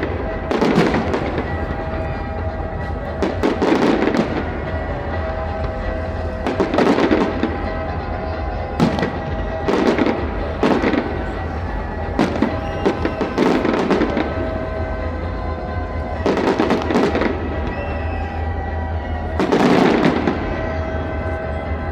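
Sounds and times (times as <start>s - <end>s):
fireworks bangs and crackles: 0.0s - 21.9s
music with held tones: 0.0s - 21.9s.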